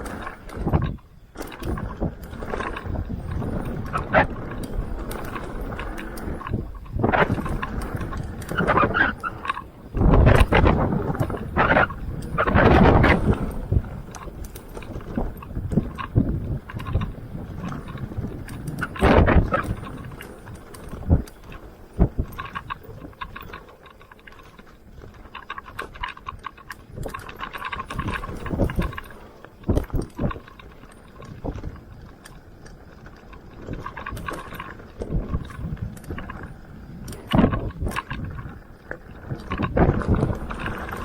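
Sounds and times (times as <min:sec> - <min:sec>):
bike thuds and rattles: 0:00.0 - 0:41.0
tyres rolling on dirt: 0:00.0 - 0:41.0.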